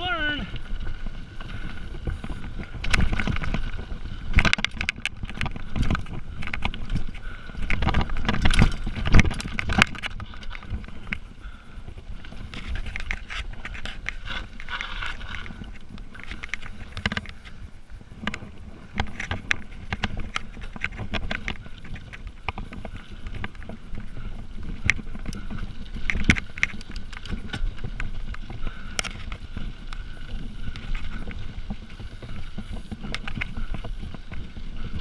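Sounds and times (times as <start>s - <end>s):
bike clattering over bumps: 0.0s - 35.0s.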